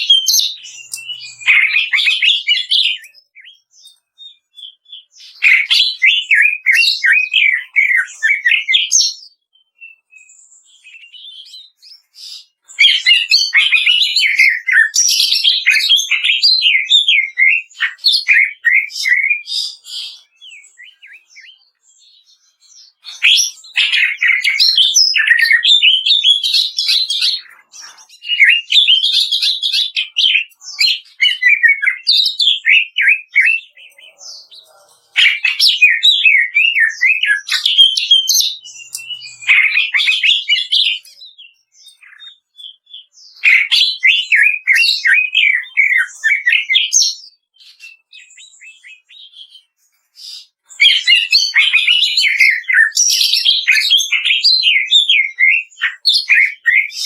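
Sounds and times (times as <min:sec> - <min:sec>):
bird singing rapid crackling song: 0:00.0 - 0:57.0.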